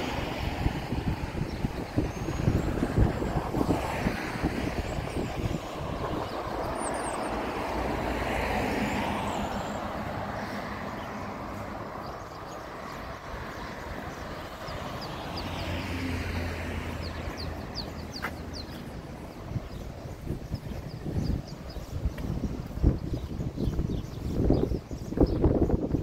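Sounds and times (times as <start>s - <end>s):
small birds chirping: 0.0s - 26.0s
vehicles passing: 0.0s - 26.0s.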